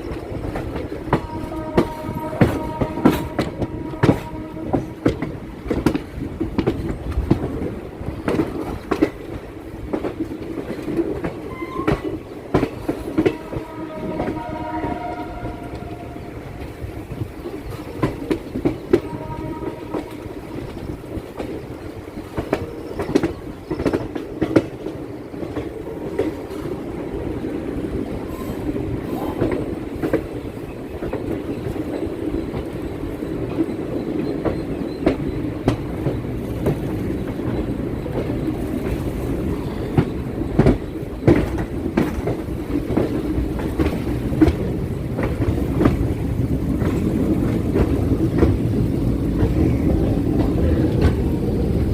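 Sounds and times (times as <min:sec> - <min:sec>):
train rumbling on rails: 0:00.0 - 0:51.9
wheels clacking over rail joints: 0:00.0 - 0:51.9.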